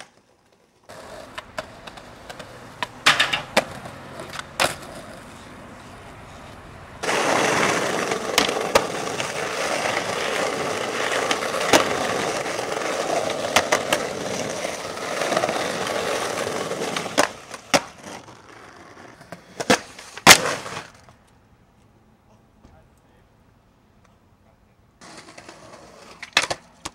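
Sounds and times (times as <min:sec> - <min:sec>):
skateboard clacking on ground: 0:00.0 - 0:21.4, 0:25.0 - 0:26.9
skateboard wheels rolling on pavement: 0:00.0 - 0:22.1, 0:25.0 - 0:26.9.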